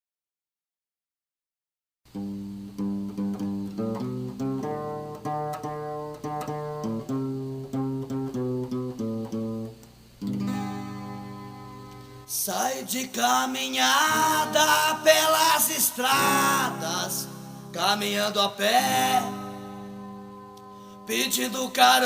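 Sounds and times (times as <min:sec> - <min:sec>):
acoustic guitar playing: 0:02.1 - 0:22.0.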